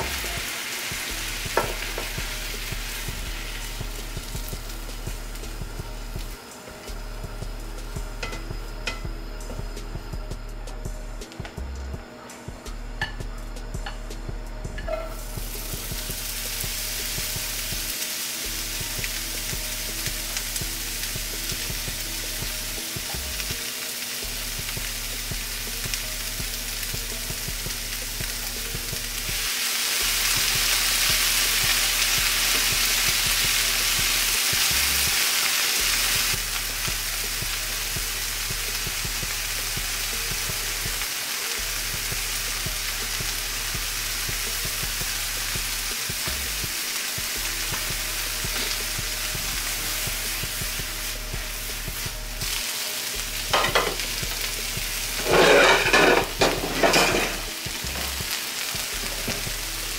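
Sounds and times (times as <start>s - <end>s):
peppers sizzling in hot oil: 0.0s - 11.6s, 13.0s - 59.9s.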